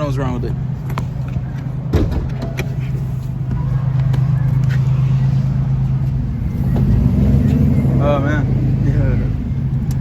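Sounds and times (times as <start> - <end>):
car engine droning on road: 0.0 - 10.0.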